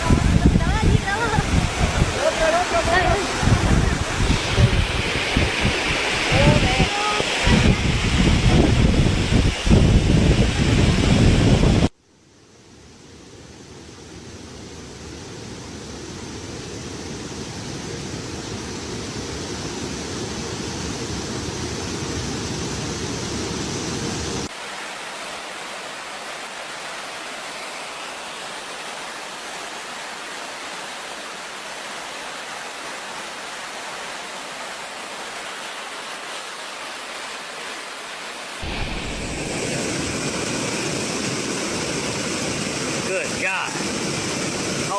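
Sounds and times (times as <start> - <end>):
water rushing from dam spillway: 0.0 - 11.9, 15.5 - 44.9.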